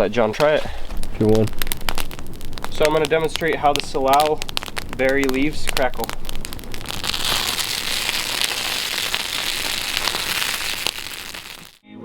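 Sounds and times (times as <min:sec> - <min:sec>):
leaves crackling in campfire: 0:00.0 - 0:11.8.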